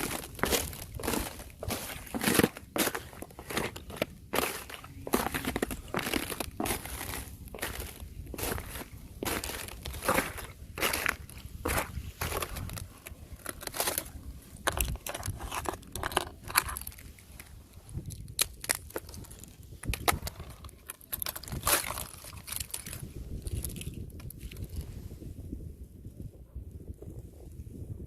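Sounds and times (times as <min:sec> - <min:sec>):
thin ice cracking underfoot: 0:00.0 - 0:24.8.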